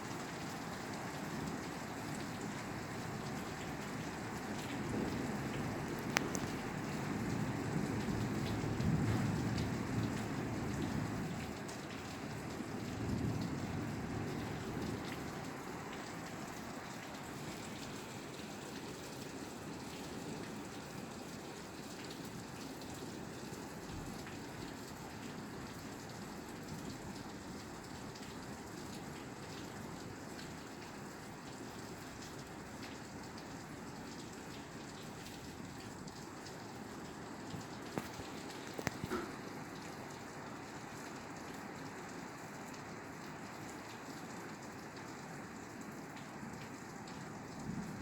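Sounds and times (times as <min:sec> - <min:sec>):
rain falling on a roof: 0:00.0 - 0:48.0.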